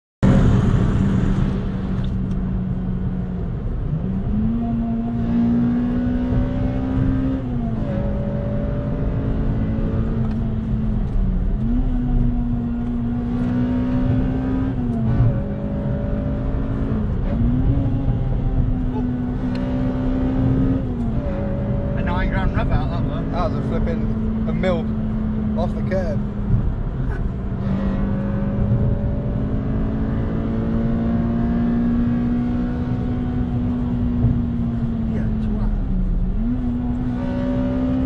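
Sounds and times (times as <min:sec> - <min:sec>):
car engine revving: 0:00.2 - 0:38.0
road and wind noise: 0:00.2 - 0:38.0.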